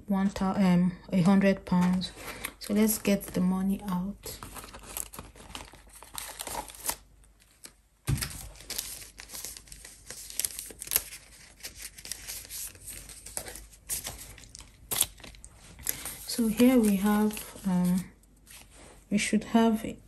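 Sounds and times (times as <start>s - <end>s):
banknotes crinkling and rustling: 1.2s - 19.2s.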